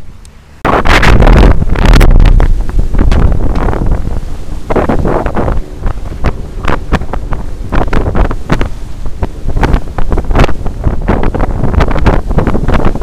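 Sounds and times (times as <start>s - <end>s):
bow wave splashing along hull: 0.0s - 13.0s
wind buffeting microphone: 0.0s - 13.0s.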